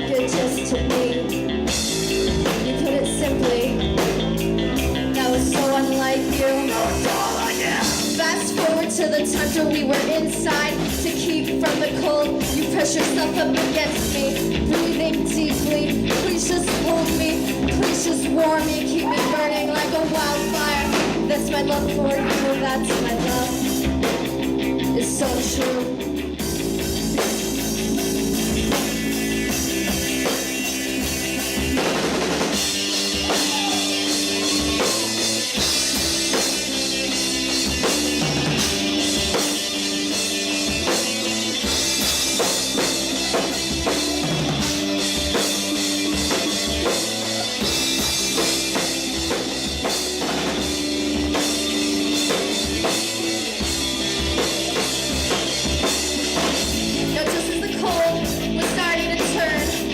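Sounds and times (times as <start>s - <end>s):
drum kit steady beat: 0.0s - 59.9s
sustained guitar chords: 0.0s - 59.9s.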